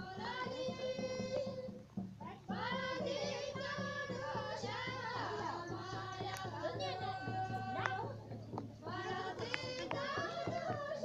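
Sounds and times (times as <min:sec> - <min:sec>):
low rhythmic pulse: 0:00.0 - 0:11.0
women singing together: 0:00.0 - 0:11.0.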